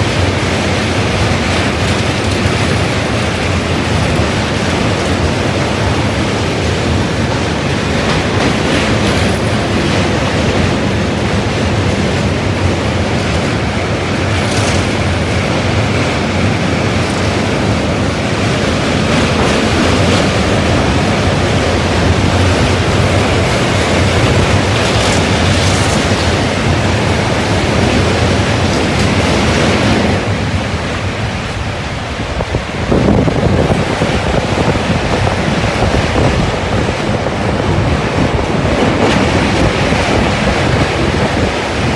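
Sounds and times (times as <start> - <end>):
train wheels rumbling on rails: 0.0 - 41.9.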